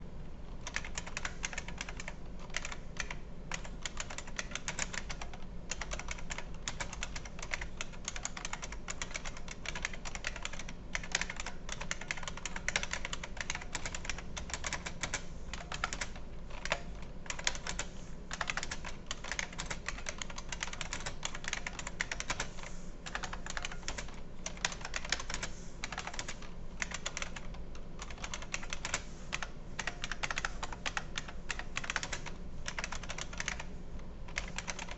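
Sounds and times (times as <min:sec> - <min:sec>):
keyboard typing clicks: 0:00.6 - 0:33.7, 0:34.3 - 0:34.9.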